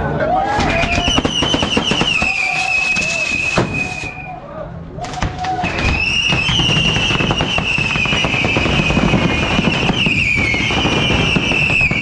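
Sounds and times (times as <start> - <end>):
fireworks high whistle: 0.6 - 4.4, 5.7 - 12.0.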